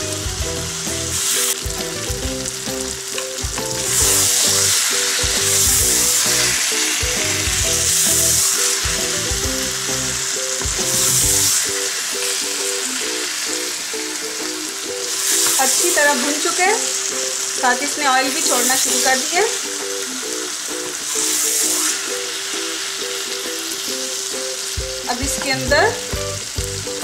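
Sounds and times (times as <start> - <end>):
background music: 0.0 - 27.0
meat sizzling in a pan: 0.0 - 27.0.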